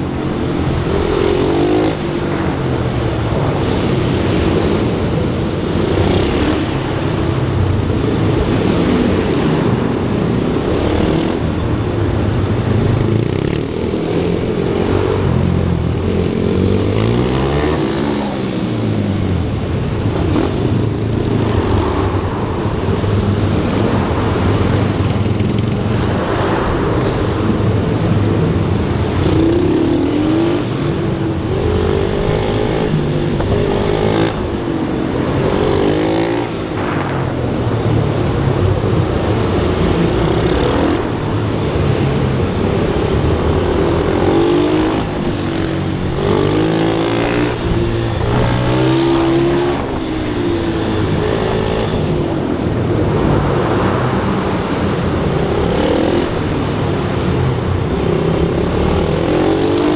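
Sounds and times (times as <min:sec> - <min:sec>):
small motorbike engines revving: 0:00.0 - 0:59.9.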